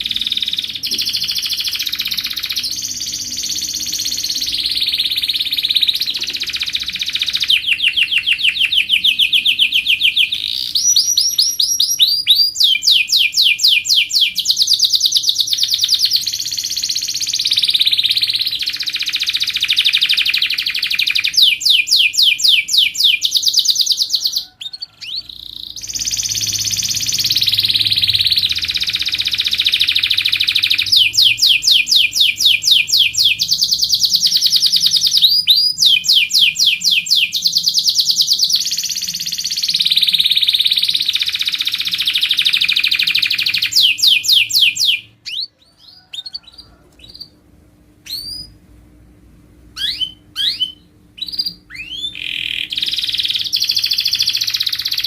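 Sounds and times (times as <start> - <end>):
canary singing trills: 0.0 - 47.4, 48.0 - 48.6, 49.7 - 55.0.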